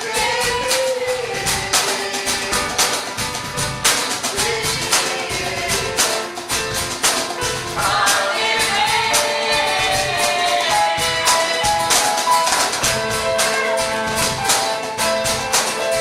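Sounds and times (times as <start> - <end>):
person singing: 0.0 - 3.2, 4.2 - 6.4, 7.7 - 16.0
percussive beat: 0.0 - 16.0.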